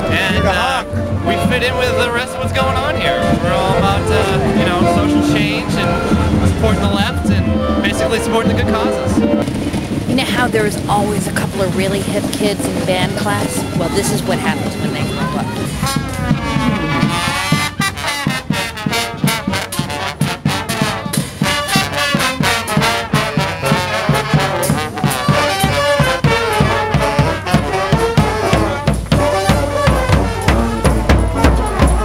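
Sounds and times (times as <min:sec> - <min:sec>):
brass horns playing a tune: 0:00.0 - 0:32.0
steady drumbeat: 0:00.0 - 0:32.0.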